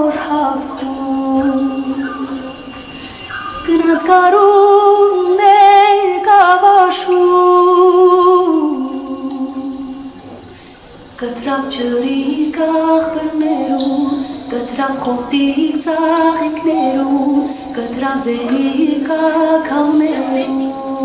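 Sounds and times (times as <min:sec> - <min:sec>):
woman singing with vibrato: 0:00.0 - 0:10.3, 0:11.2 - 0:21.0.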